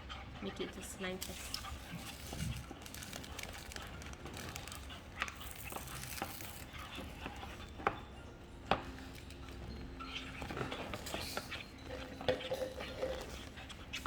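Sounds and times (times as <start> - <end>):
slime being stirred: 1.1 - 8.1, 8.7 - 14.0.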